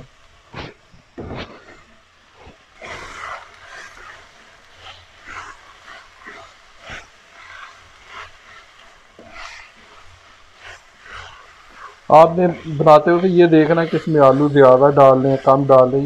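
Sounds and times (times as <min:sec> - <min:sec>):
wooden spoon stirring in metal pot: 0:00.0 - 0:16.0.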